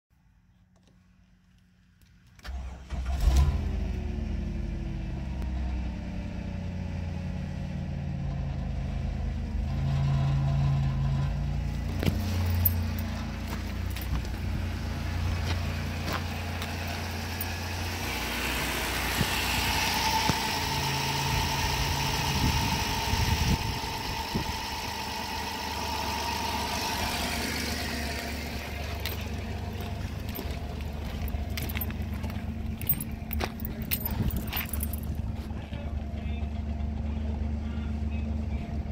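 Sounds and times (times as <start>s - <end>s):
car engine starting and idling: 2.3s - 38.9s
engine bay whine: 2.3s - 38.9s.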